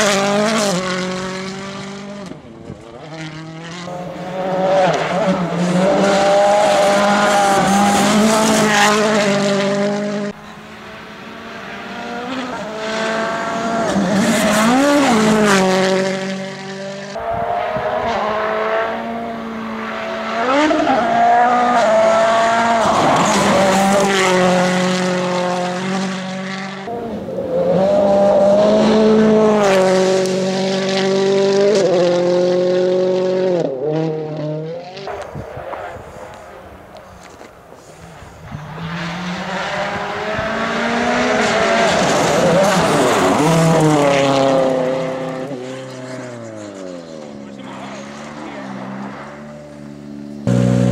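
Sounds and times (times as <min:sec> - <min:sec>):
rally car engine revving hard: 0:00.0 - 0:10.4, 0:11.3 - 0:35.2, 0:38.8 - 0:47.1, 0:50.4 - 0:50.9.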